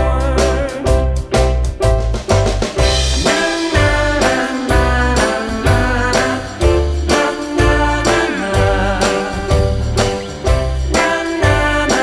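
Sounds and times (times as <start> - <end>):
steady bass beat: 0.0 - 12.0
upbeat music with brass melody: 0.0 - 12.0.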